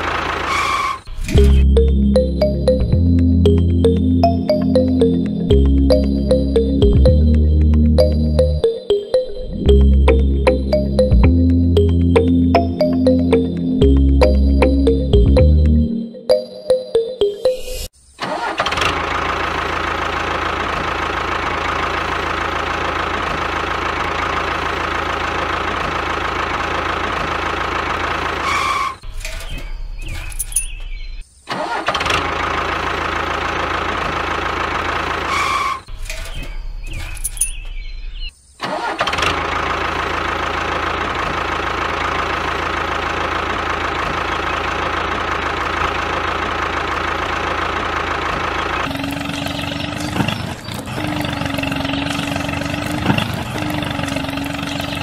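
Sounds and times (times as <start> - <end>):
tractor engine running: 0.0 - 17.4, 18.2 - 37.8, 38.6 - 55.0.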